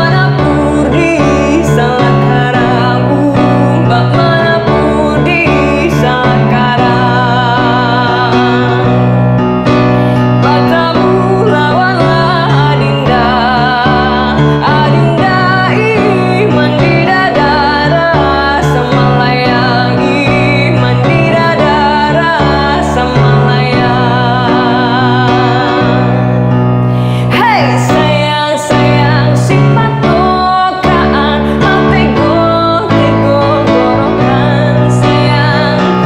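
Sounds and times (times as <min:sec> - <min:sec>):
keyboard and backing instruments: 0:00.0 - 0:36.0
woman singing with vibrato: 0:00.0 - 0:36.0.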